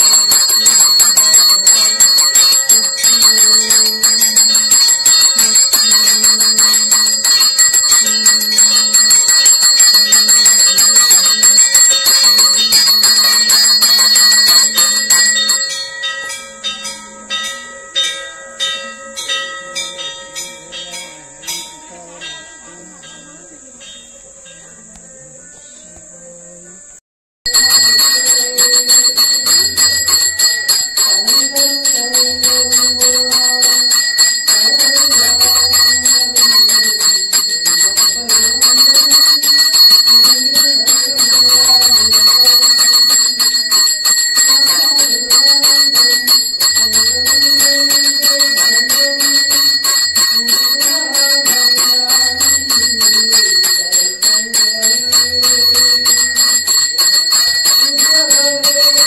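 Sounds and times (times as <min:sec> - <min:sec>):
hand bell ringing rapidly: 0:00.0 - 0:21.7, 0:27.5 - 0:59.0.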